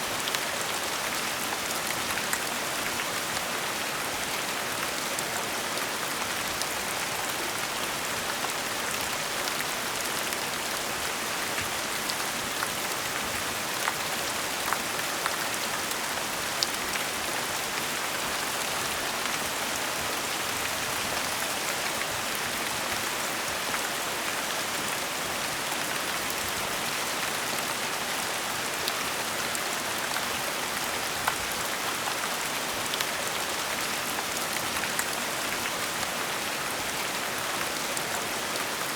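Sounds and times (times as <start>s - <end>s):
gentle rain: 0.0s - 38.9s.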